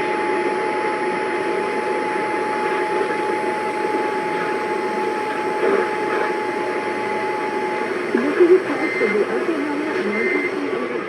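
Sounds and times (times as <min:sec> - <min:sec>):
radio static hiss: 0:01.4 - 0:11.0.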